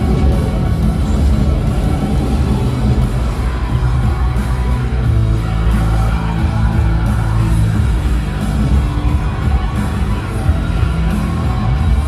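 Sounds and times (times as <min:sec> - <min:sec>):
crowd noise: 0:00.0 - 0:12.0
rock music playing: 0:00.0 - 0:12.0.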